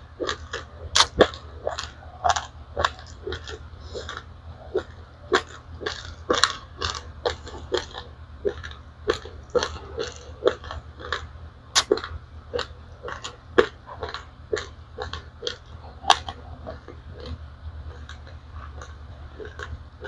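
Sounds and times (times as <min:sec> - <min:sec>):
crunching and chewing rice grains: 0:00.0 - 0:20.0
low hum: 0:00.0 - 0:20.0.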